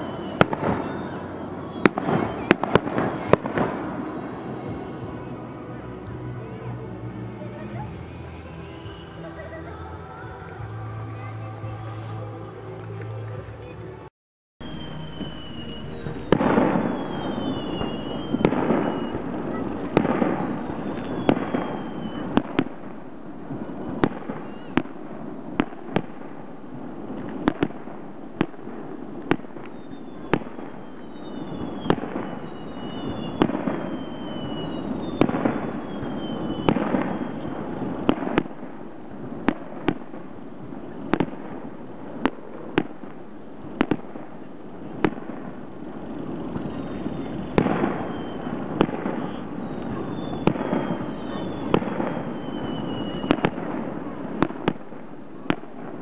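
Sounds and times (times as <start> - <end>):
high falling firework whistles: 0.0 - 6.0, 8.5 - 9.6, 14.6 - 56.0
fireworks bangs with crackling: 0.0 - 9.4, 14.6 - 56.0.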